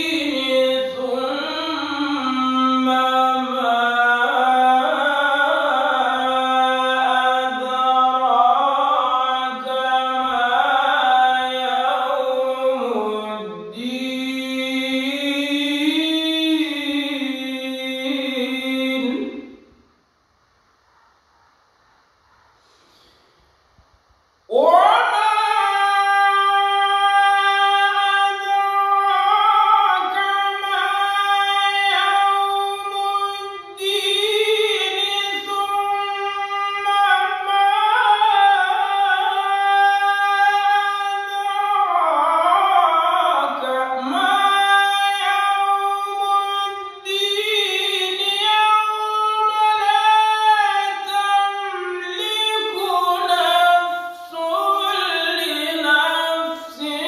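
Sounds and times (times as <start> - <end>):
man chanting recitation: 0.0 - 19.6, 24.5 - 57.0.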